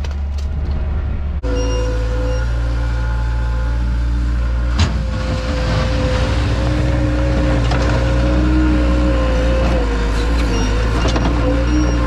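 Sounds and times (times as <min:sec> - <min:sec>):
skid steer loader engine running: 0:00.0 - 0:12.0.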